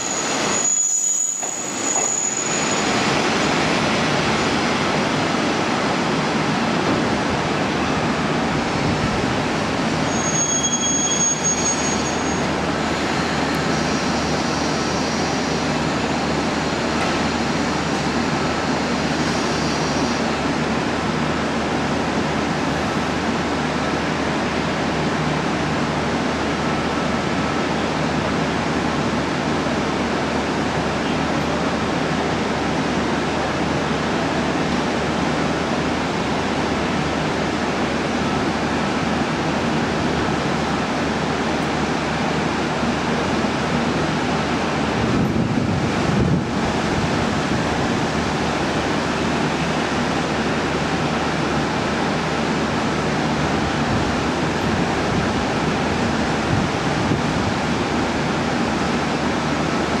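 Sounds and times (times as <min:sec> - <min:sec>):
diesel railcar idling: 0:00.0 - 1:00.0.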